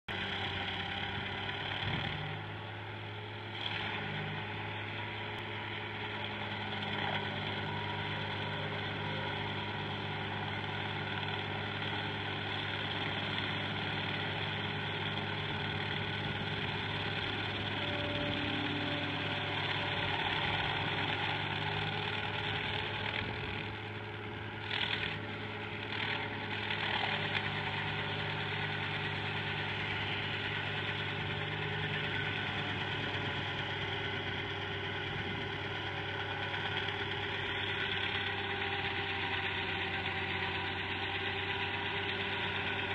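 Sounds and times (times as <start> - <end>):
cutter wheel grinding stump: 0.1 - 42.9
diesel engine running under load: 0.1 - 42.9.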